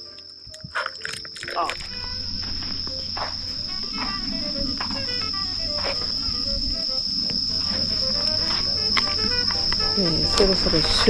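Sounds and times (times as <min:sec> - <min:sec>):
insects trilling: 0:00.0 - 0:11.0
soft plucked music: 0:01.6 - 0:11.0.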